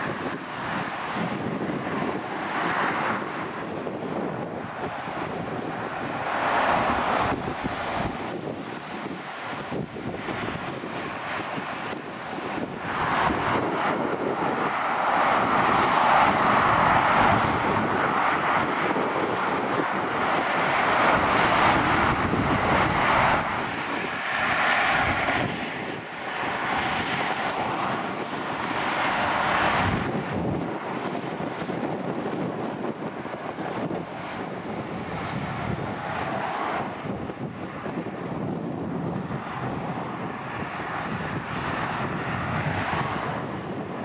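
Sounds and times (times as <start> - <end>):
traffic passing: 0.0 - 44.0
wind on microphone: 0.0 - 44.0.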